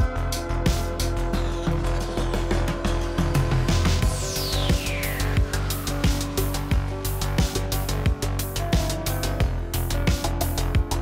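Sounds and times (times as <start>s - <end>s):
heavy bass: 0.0s - 11.0s
music with drum beat: 0.0s - 11.0s.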